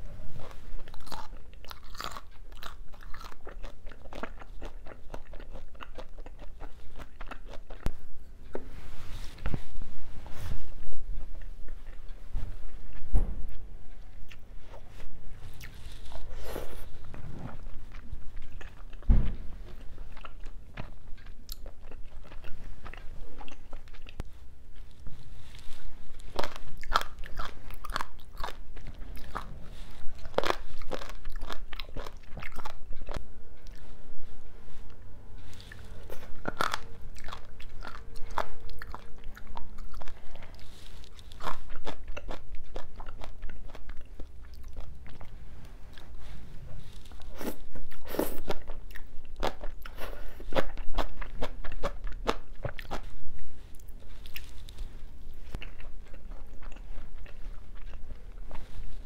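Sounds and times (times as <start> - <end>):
chewing crunches: 0.4 - 8.6, 12.9 - 33.9, 35.5 - 53.1, 53.7 - 59.0.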